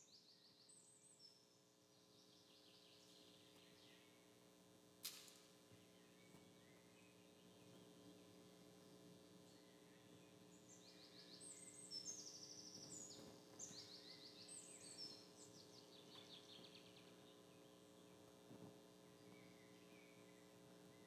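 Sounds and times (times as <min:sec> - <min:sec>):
songbirds trilling and chirping: 0:00.0 - 0:04.9, 0:05.6 - 0:21.0.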